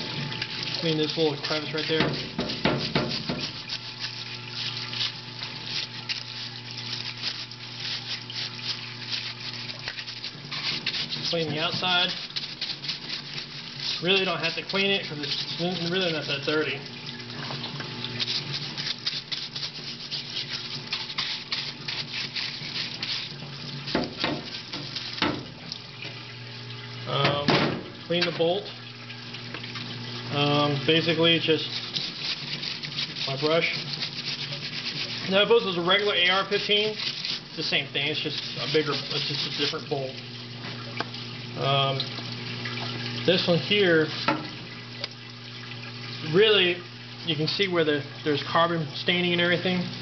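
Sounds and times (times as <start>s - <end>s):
brush scrubbing metal: 0.0s - 25.8s, 29.7s - 45.0s
pump humming: 0.0s - 50.0s.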